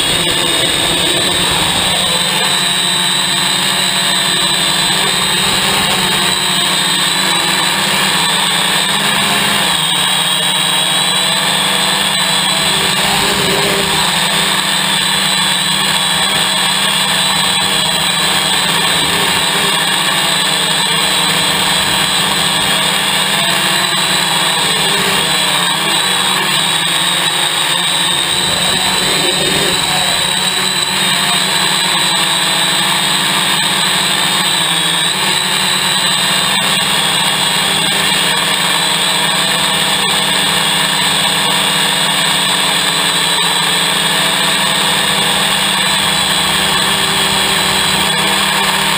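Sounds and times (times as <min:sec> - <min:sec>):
drone motors whining: 0:00.0 - 0:48.9.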